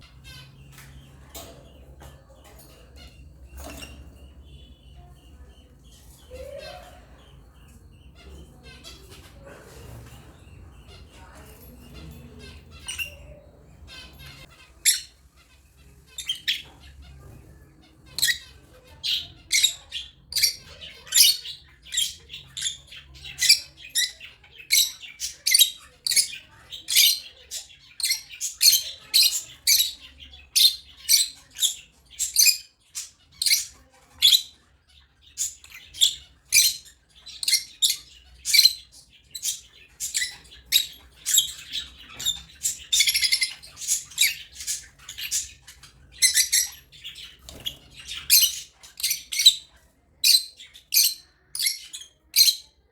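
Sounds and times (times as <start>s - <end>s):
lovebirds chirping: 0.0s - 52.9s.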